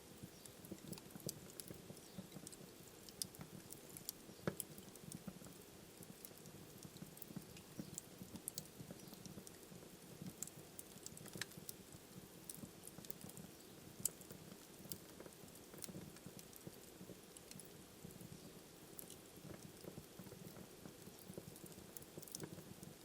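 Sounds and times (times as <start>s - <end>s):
fire crackles and pops: 0.0s - 23.0s
wood fire burning: 0.0s - 23.0s.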